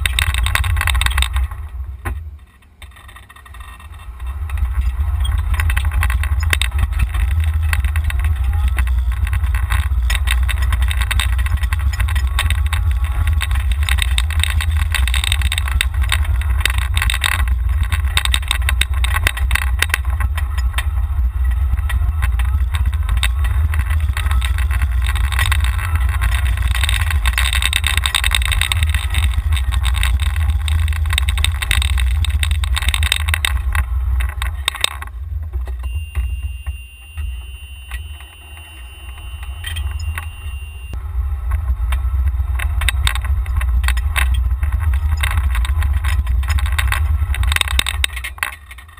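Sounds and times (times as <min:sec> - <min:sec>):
cart rattling and clicking: 0:00.0 - 0:48.9
golf cart rumble: 0:00.0 - 0:48.9.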